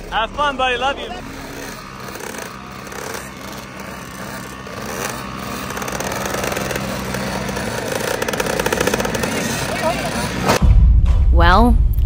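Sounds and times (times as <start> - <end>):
motocross bike engines idling and revving: 0.0 - 10.6.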